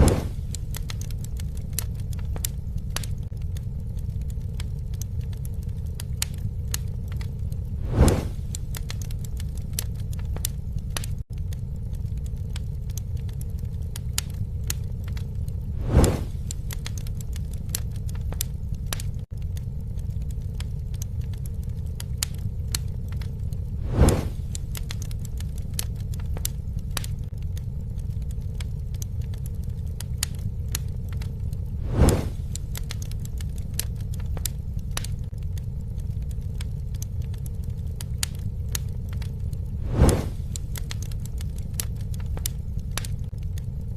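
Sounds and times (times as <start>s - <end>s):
campfire crackling and popping: 0.0s - 43.9s
fire low rumble: 0.0s - 43.9s.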